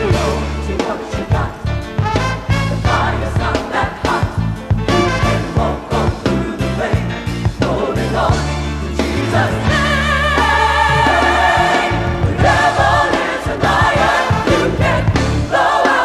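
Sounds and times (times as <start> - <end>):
backing band: 0.0 - 16.0
gospel choir singing: 0.0 - 16.0.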